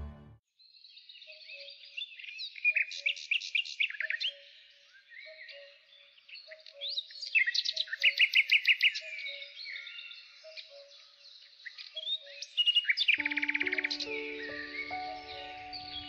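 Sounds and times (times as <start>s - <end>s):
birds calling and chirping: 1.2s - 16.0s.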